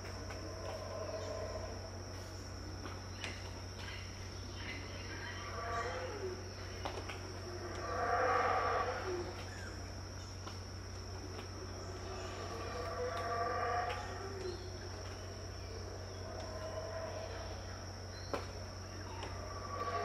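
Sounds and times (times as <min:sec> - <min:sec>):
howler monkeys roaring: 0:00.0 - 0:10.3, 0:10.9 - 0:20.0.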